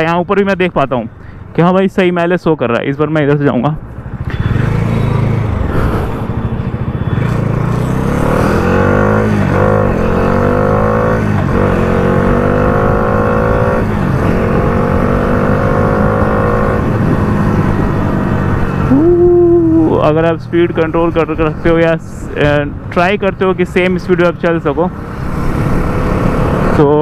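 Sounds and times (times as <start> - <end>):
motorcycle engine accelerating: 3.9 - 22.6, 23.8 - 27.0.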